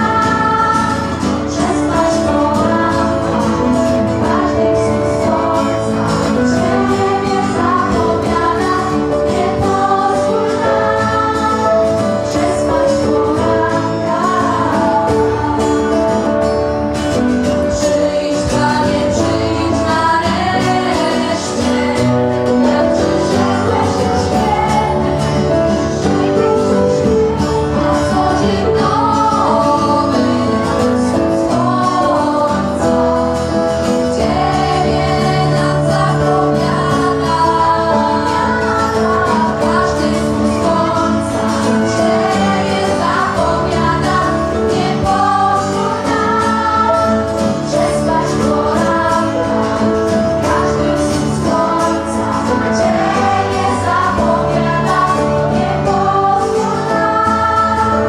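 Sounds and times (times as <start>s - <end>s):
group singing into microphones: 0.0s - 58.0s.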